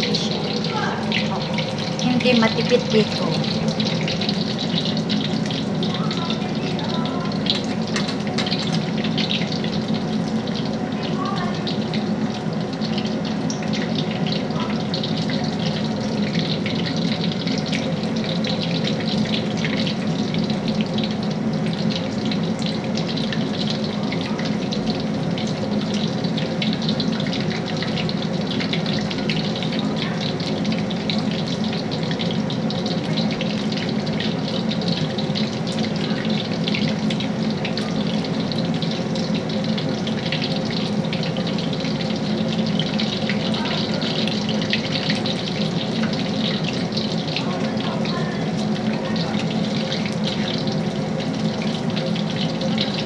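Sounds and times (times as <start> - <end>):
food deep-frying in oil: 0.0 - 53.0.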